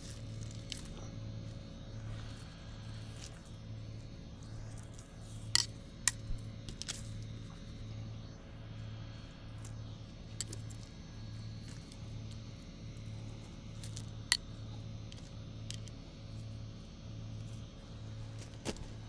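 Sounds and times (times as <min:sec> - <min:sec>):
pulsing low hum: 0:00.0 - 0:19.0.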